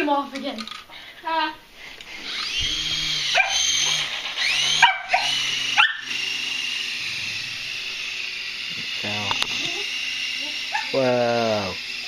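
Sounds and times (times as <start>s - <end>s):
toy helicopter motors whining: 0.0s - 12.0s
low rotor hum: 2.1s - 12.0s.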